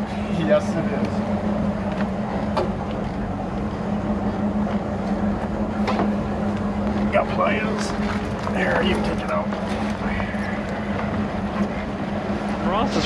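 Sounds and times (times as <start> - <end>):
boat engine low hum: 0.0 - 13.0.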